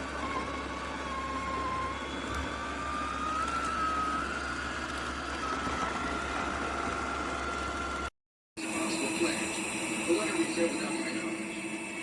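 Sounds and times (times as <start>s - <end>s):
motor whine rising in pitch: 0.0s - 12.0s
robot vacuum suction fan whirring: 0.0s - 12.0s.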